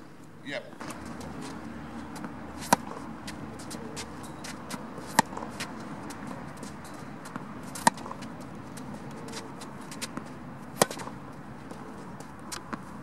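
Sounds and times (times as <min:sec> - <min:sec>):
tennis racket hitting ball: 0:00.8 - 0:13.0.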